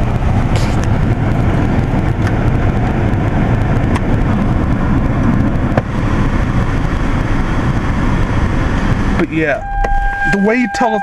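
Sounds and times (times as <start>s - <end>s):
air conditioning blower rushing: 0.0s - 10.6s
car engine running: 0.0s - 11.0s.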